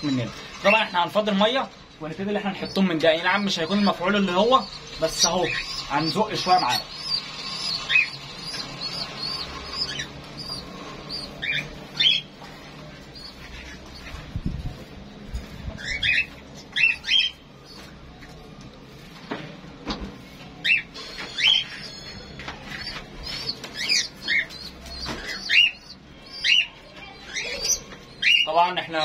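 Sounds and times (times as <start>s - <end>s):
small cage birds chirping: 0.0s - 29.0s.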